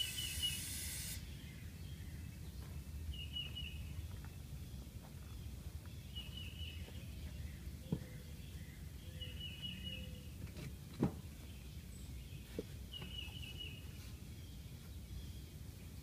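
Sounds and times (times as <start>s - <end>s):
bird chirping: 0.0s - 10.5s, 11.2s - 16.0s.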